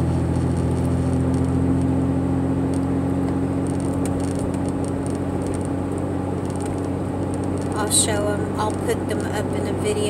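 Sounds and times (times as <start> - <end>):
car engine drone: 0.0 - 10.0.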